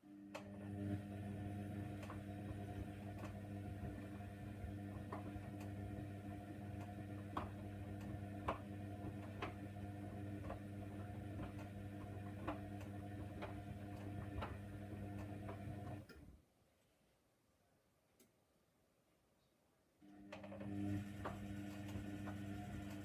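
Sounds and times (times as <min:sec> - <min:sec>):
washing machine motor humming: 0:00.0 - 0:16.1, 0:20.0 - 0:23.0.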